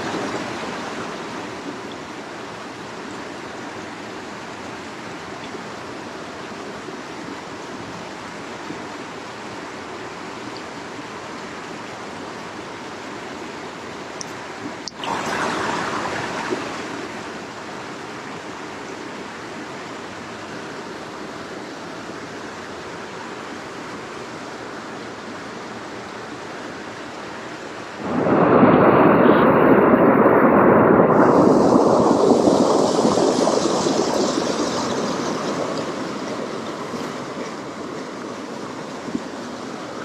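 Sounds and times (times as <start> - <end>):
small stream running: 0.0 - 28.1, 31.1 - 40.0.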